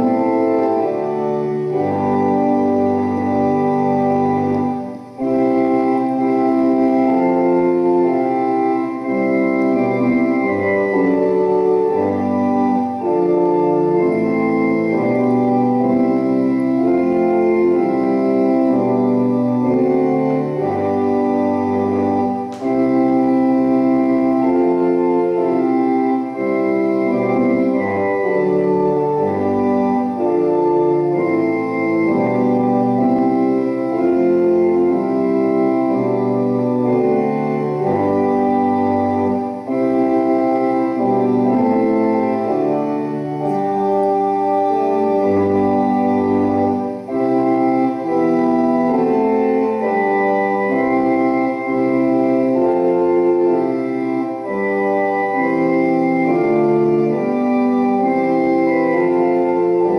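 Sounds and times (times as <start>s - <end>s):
church organ playing a hymn: 0.0s - 59.9s.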